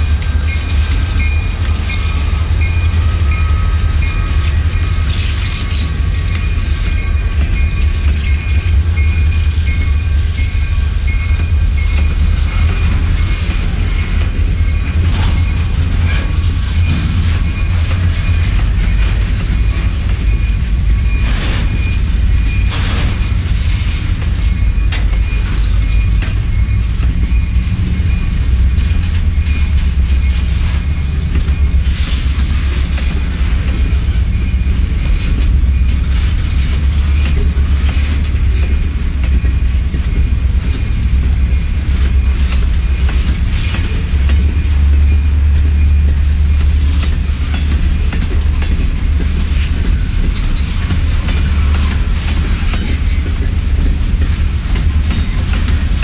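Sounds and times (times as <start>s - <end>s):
train wheels rumbling on rails: 0.0s - 56.0s
wheels clacking on rail joints: 0.0s - 56.0s.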